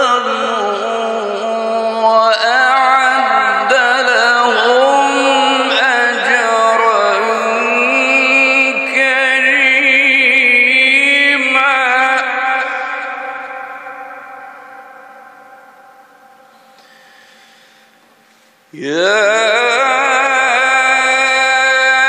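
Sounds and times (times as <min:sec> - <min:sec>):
man chanting melodically: 0:00.0 - 0:17.0, 0:18.7 - 0:22.0.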